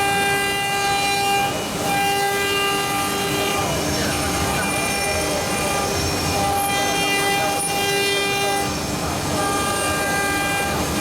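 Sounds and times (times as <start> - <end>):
wood carving router whining: 0.0 - 11.0.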